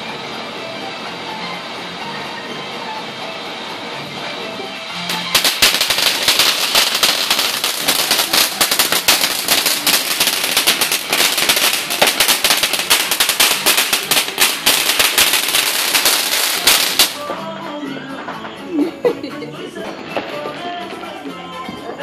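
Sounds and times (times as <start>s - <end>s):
firework fountain crackling: 0.0s - 18.7s, 19.5s - 22.0s.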